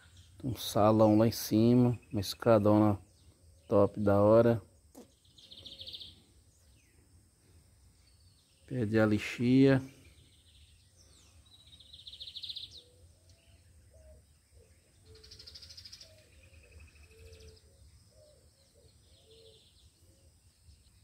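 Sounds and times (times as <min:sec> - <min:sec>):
birds trilling: 0:00.0 - 0:21.0.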